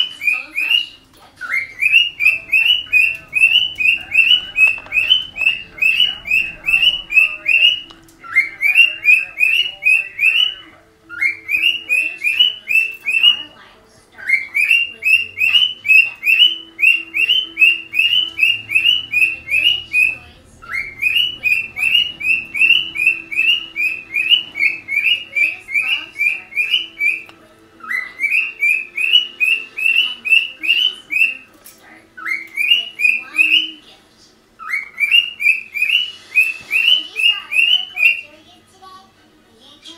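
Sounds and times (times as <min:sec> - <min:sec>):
bird whistling rising chirps: 0:00.0 - 0:13.6, 0:14.2 - 0:31.5, 0:32.2 - 0:33.8, 0:34.6 - 0:38.3.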